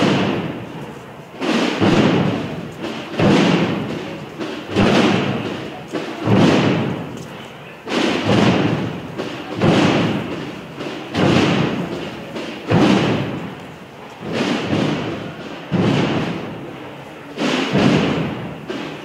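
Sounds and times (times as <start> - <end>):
marching drums beating: 0.0 - 19.0.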